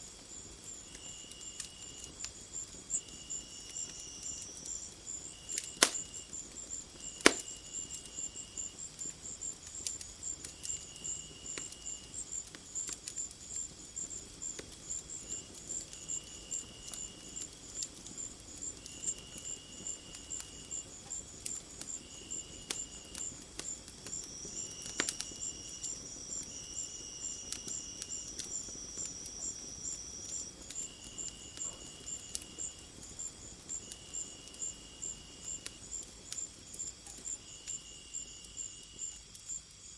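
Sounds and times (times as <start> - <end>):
crickets chirping: 0.0 - 39.9
sharp crackling pops: 0.2 - 39.7
insect buzzing calls: 0.4 - 39.9.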